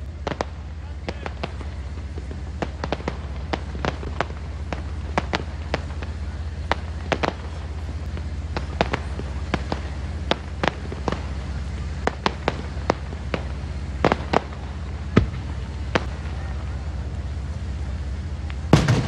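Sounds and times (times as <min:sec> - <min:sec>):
fireworks bangs and cracks: 0:00.0 - 0:19.0
low rumble: 0:00.0 - 0:19.0.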